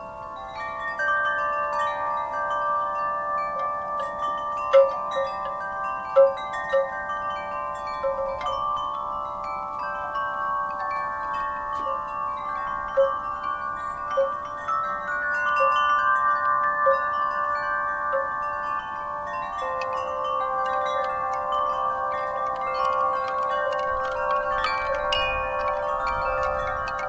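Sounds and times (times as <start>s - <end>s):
wind chimes ringing: 0.0s - 27.0s.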